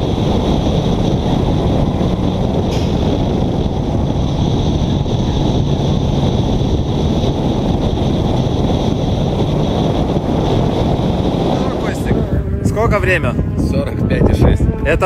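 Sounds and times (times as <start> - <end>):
car engine droning: 0.0 - 15.0
wind buffeting microphone: 0.0 - 15.0.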